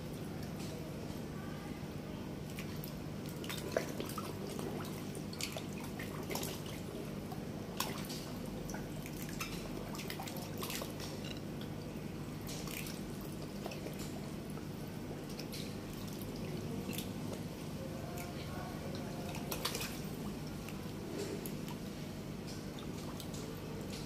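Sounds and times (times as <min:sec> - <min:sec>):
water drips and small splashes: 0:00.0 - 0:24.0
fish splashing and slurping: 0:01.9 - 0:24.0.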